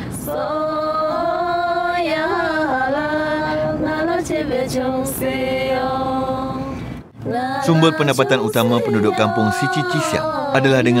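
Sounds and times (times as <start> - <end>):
women singing together: 0.1 - 11.0.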